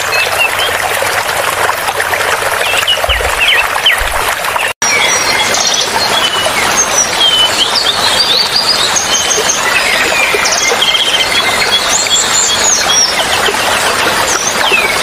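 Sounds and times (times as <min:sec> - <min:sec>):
running water: 0:00.0 - 0:15.0
songbirds chirping and whistling: 0:02.6 - 0:15.0.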